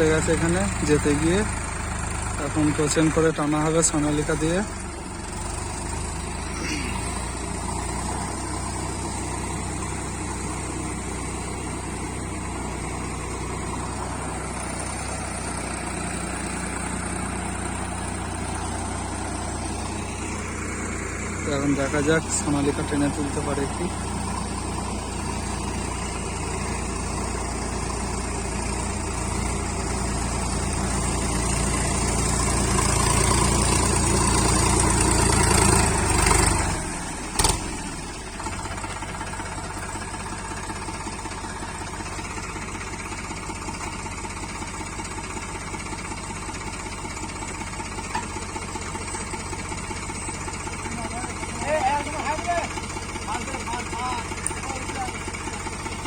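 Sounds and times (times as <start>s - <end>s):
tractor diesel engine labouring: 0.0s - 56.0s.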